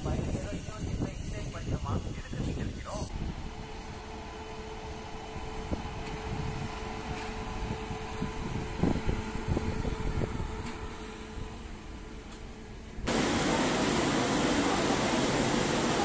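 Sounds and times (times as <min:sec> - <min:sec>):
electric locomotive hum: 0:00.0 - 0:16.0.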